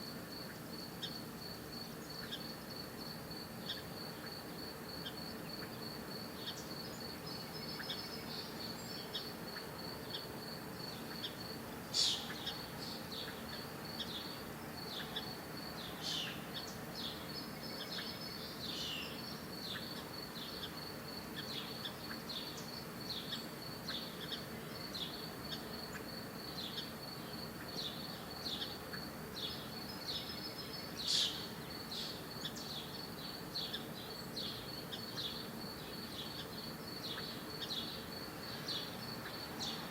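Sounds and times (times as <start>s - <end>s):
high insect trill: 0.0s - 39.9s
birds chirping: 6.4s - 39.9s.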